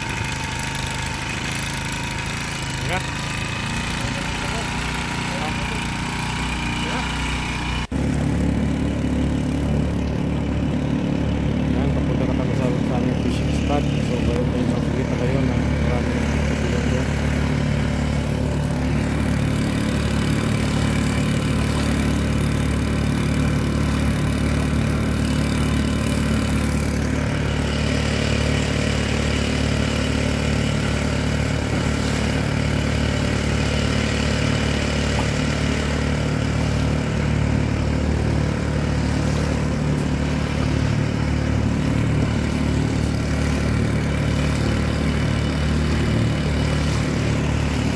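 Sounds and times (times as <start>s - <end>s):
outboard motor running: 0.0s - 47.9s
wind and water noise: 7.1s - 47.9s.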